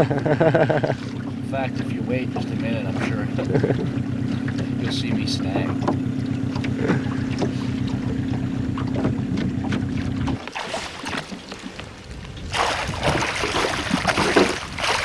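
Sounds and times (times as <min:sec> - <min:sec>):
outboard motor running: 0:00.0 - 0:15.0
fish thrashing and splashing: 0:02.4 - 0:15.0.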